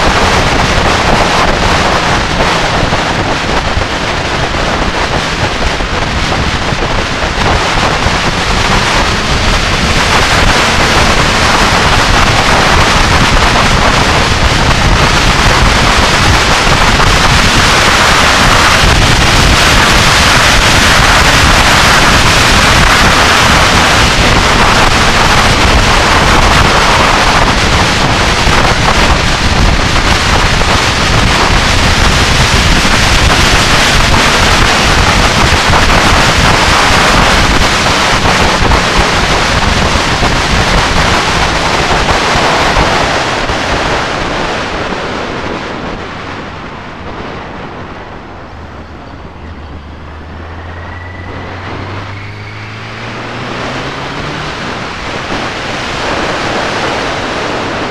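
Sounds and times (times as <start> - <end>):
wind noise on microphone: 0.0 - 57.9.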